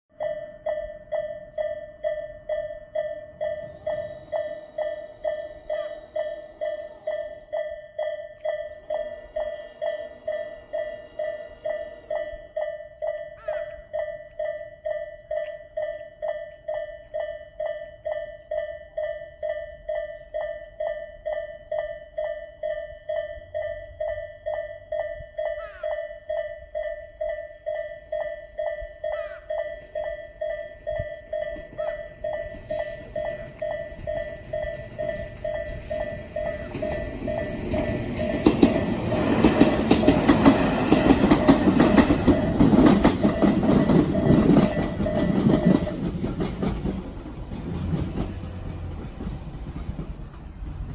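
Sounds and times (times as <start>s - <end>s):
level crossing warning bell: 0.1s - 50.9s
approaching train rumble: 0.2s - 50.9s.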